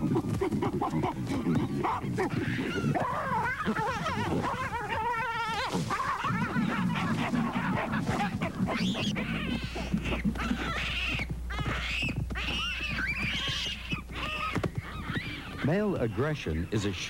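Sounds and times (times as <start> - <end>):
baboons screaming and barking: 0.0 - 17.0.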